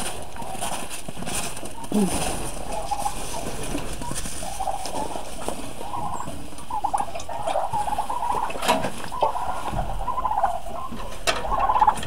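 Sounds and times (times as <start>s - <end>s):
turkeys calling: 0.0s - 12.0s.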